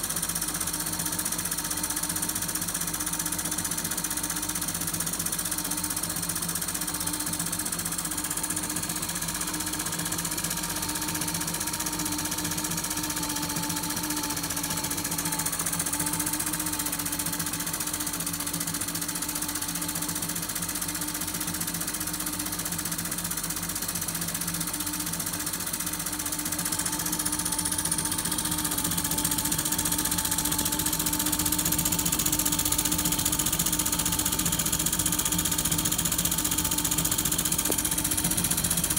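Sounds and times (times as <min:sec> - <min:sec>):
steam engine running: 0:00.0 - 0:38.9.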